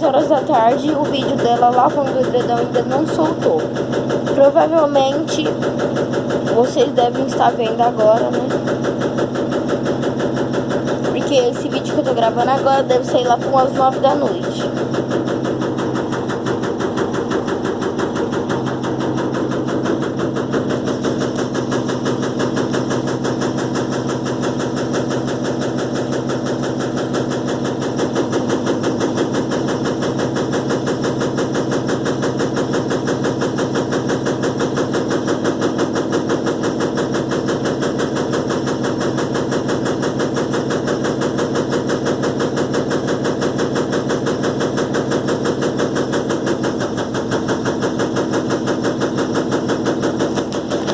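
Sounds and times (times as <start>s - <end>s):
washing machine spin rattling: 0.0s - 50.9s.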